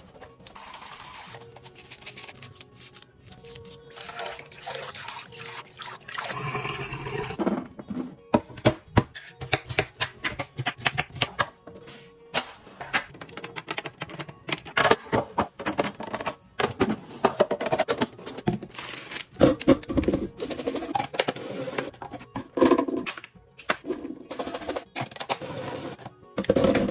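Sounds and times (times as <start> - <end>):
background music: 0.0 - 26.9.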